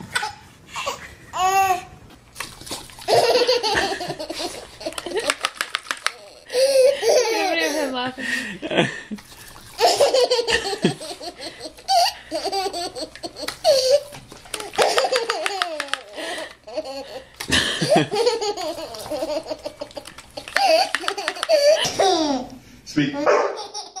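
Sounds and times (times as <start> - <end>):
toddler laughing: 3.1 - 8.0, 9.7 - 24.0.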